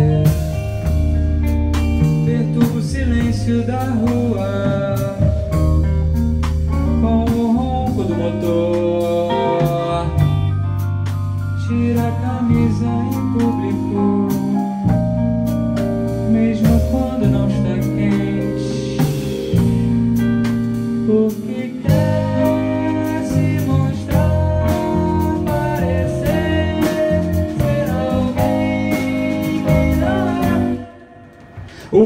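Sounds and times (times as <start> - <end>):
man singing: 0.0 - 0.9, 2.0 - 5.9, 6.7 - 10.8, 11.4 - 15.0, 16.2 - 19.7, 21.0 - 32.0
bass guitar: 0.0 - 32.0
drum kit: 0.0 - 32.0
electric guitar: 0.0 - 32.0.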